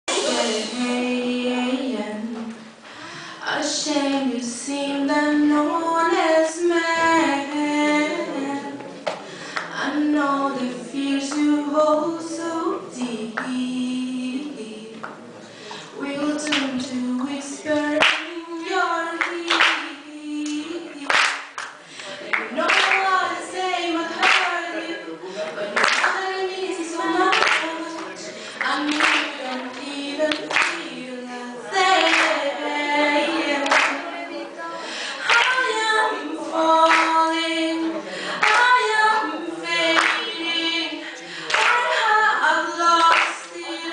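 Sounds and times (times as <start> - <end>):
woman singing a cappella: 0.1 - 8.9, 9.6 - 15.2, 15.9 - 21.6, 22.3 - 43.9.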